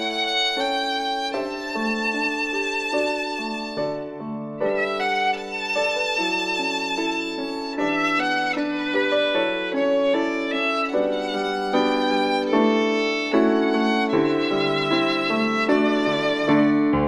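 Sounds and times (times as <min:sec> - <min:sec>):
violin melody with strings: 0:00.0 - 0:17.0.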